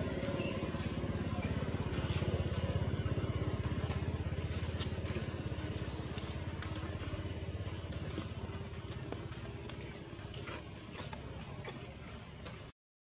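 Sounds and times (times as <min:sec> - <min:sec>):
small engine running: 0:00.0 - 0:12.7.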